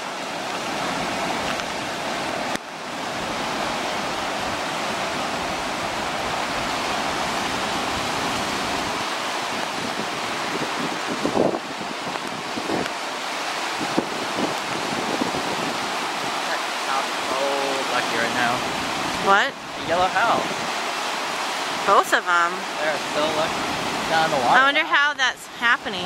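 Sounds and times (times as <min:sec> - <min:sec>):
floodwater rushing roar: 0:00.0 - 0:26.0.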